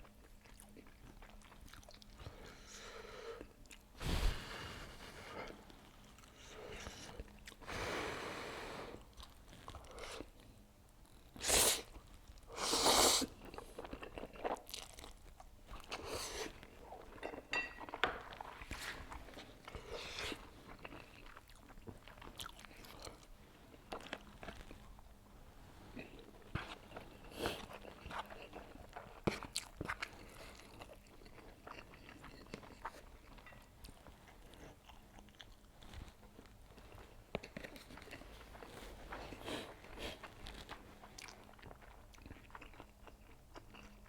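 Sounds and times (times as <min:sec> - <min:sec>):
chewing noodles with mouth clicks: 0:00.0 - 0:02.7, 0:09.0 - 0:44.0.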